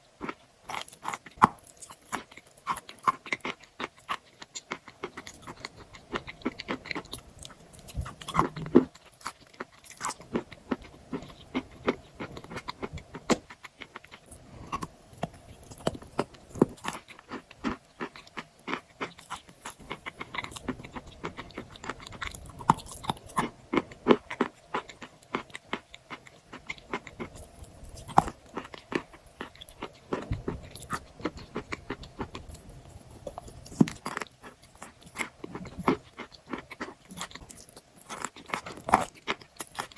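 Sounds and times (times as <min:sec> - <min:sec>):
person chewing chalk: 0:00.0 - 0:39.9.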